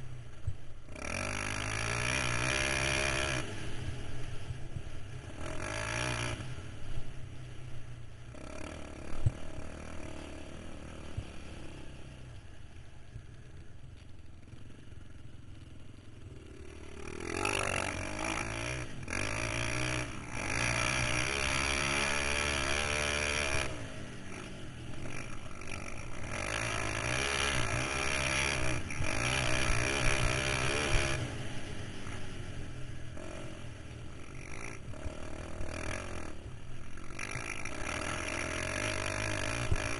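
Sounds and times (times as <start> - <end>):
quad engine revving: 0.9 - 7.0, 8.3 - 12.1, 16.3 - 39.9.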